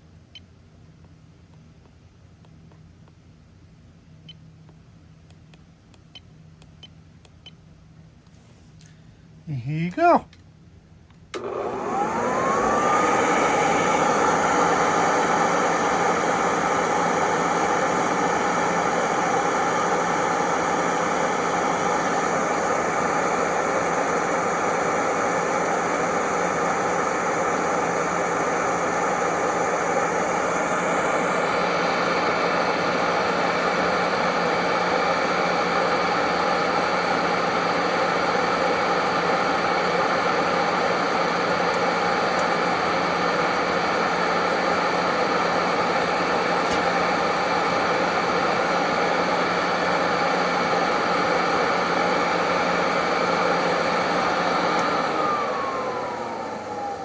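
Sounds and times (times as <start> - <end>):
vacuum cleaner motor whining: 11.3 - 57.0.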